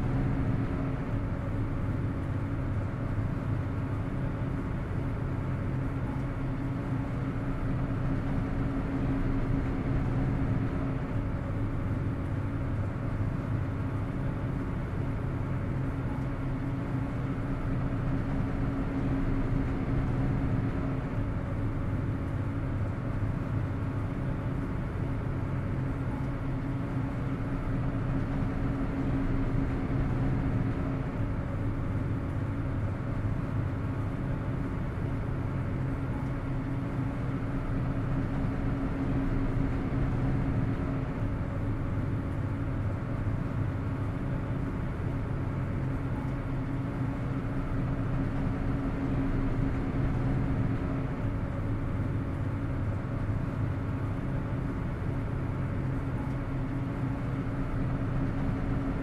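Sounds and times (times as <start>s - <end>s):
ferry engines droning: 0.0s - 59.0s.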